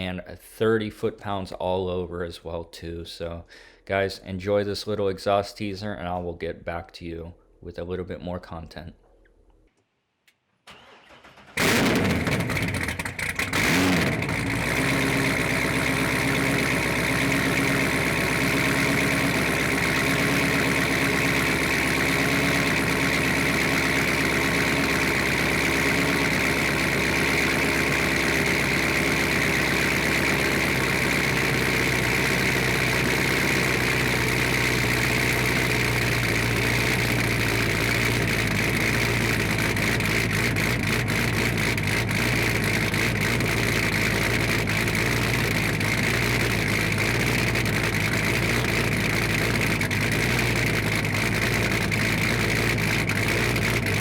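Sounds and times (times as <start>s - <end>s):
car engine starting and idling: 10.6s - 54.0s.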